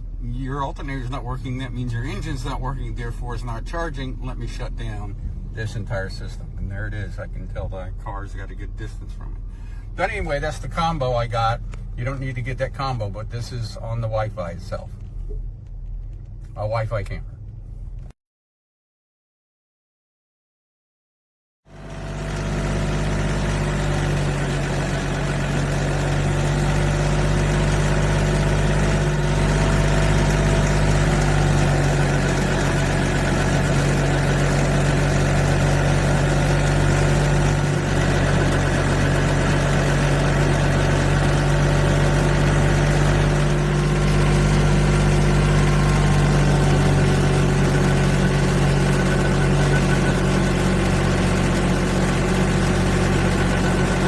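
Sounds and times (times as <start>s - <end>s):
car engine running: 0.0s - 18.1s, 21.7s - 54.0s.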